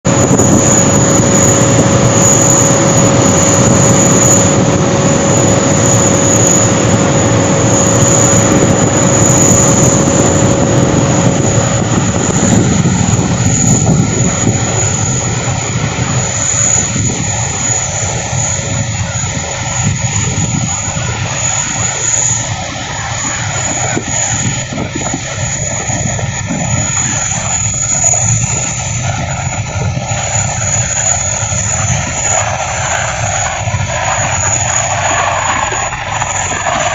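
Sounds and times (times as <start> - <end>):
aircraft engine whine: 0.0 - 36.9.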